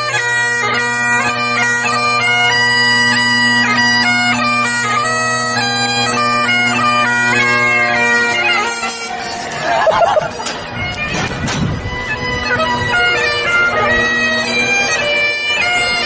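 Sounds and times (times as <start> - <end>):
bagpipe playing a tune: 0.0 - 16.0.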